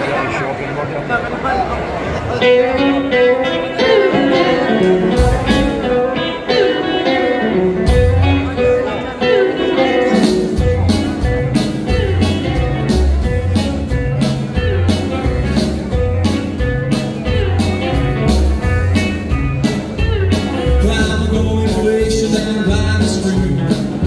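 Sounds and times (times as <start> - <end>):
drums: 1.3 - 24.0
guitars: 2.1 - 24.0
upright bass: 2.4 - 24.0.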